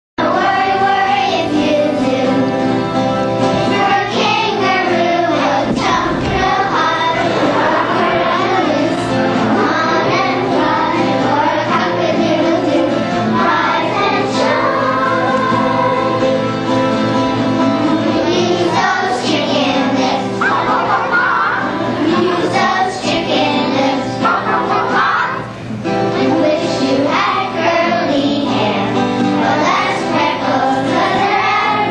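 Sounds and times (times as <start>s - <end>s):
young children singing: 0.2s - 31.9s.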